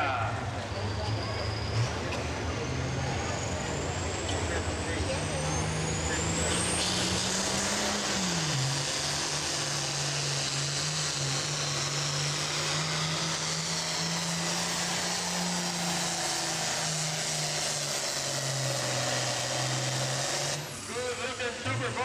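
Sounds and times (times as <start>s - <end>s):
diesel tractor engine at full power: 0.0s - 22.0s.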